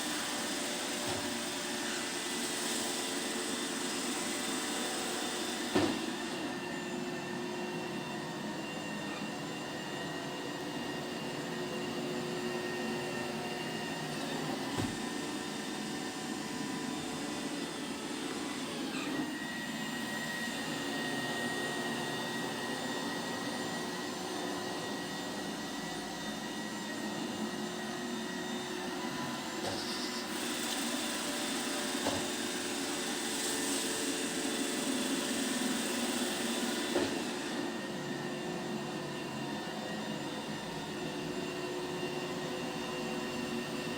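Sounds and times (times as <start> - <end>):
robot vacuum whirring: 0.0 - 43.9.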